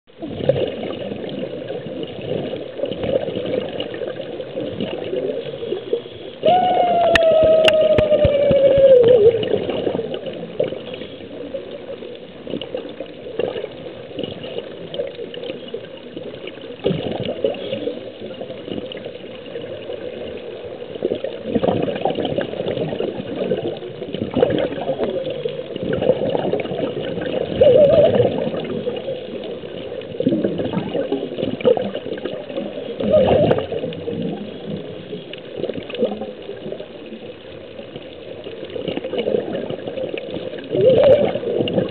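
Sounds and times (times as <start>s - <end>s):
bubbles gurgling: 0.1s - 41.9s.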